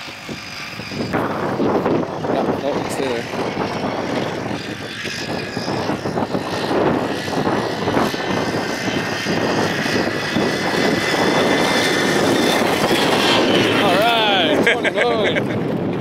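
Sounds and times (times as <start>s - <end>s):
electric bicycle motor whine: 0.0s - 14.8s
wind buffeting microphone: 0.0s - 16.0s.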